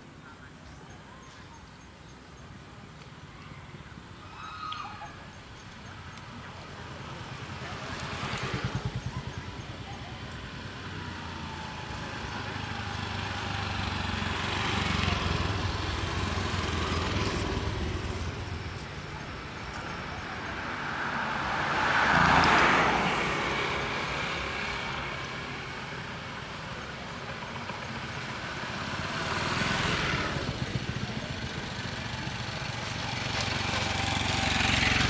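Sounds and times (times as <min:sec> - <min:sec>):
vehicles passing by: 0:00.2 - 0:35.0.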